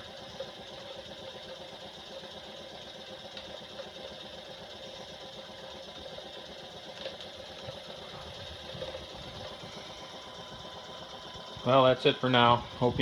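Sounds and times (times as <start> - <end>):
model steam engine running: 0.0 - 13.0.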